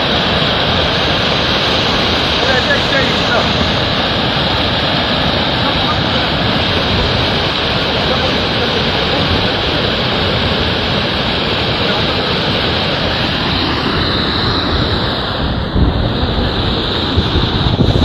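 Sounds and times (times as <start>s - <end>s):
floodwater rushing: 0.0s - 18.0s
wind buffeting microphone: 0.0s - 18.0s.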